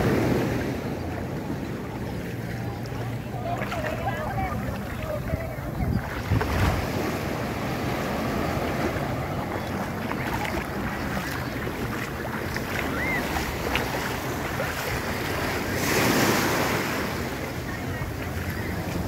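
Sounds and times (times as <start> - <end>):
surf washing onto beach: 0.0 - 19.0
wind buffeting microphone: 0.0 - 19.0.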